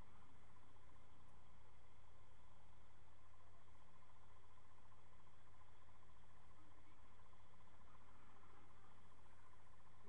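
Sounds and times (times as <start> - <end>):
faint background hiss: 0.0 - 10.0
low hum: 0.0 - 10.0
thin steady tone: 0.0 - 10.0.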